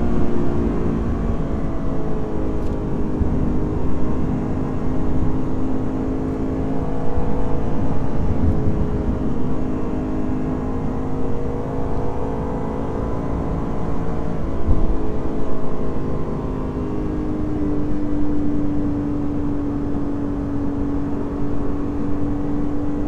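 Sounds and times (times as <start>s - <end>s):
car engine running: 0.0s - 23.0s
low road rumble: 0.0s - 23.0s.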